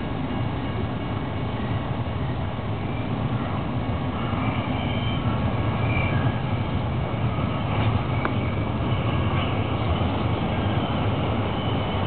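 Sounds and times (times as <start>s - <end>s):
distant freight train rumble: 0.0s - 12.0s.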